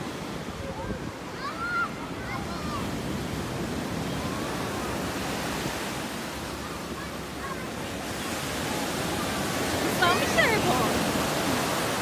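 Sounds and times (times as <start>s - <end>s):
surf washing onto sand beach: 0.0s - 12.0s.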